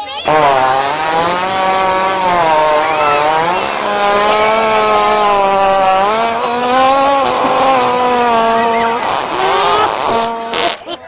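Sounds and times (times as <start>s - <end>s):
hippopotamus farting: 0.2s - 11.0s.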